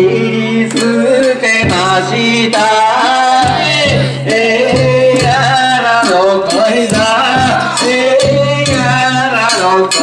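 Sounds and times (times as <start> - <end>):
drum: 0.0 - 10.0.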